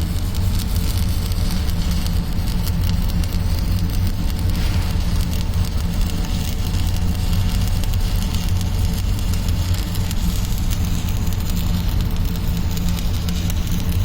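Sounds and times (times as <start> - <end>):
low steady hum: 0.0 - 14.0
welding arc crackling: 0.0 - 14.0.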